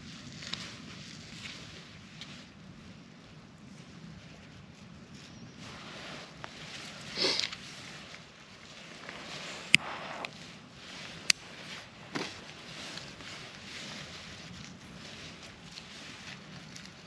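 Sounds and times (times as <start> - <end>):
rustling and crunching in ash: 0.0 - 17.0.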